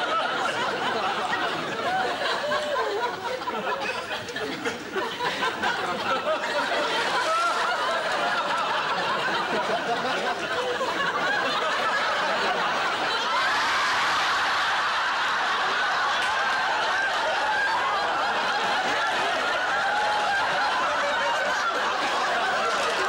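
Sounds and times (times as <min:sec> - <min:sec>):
audience laughing: 0:00.0 - 0:23.0.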